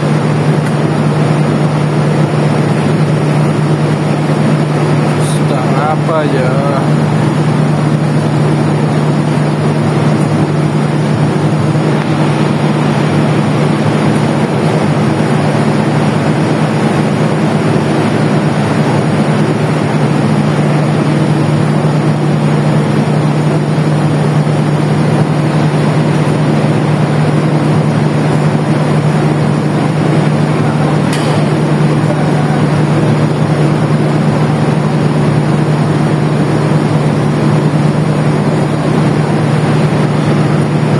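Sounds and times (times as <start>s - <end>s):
diesel train engine idling: 0.0s - 40.9s.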